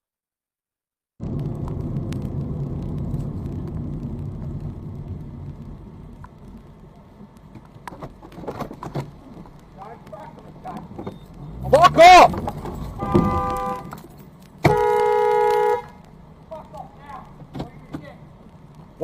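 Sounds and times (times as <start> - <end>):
vehicle engine and road rumble: 1.2 - 19.0.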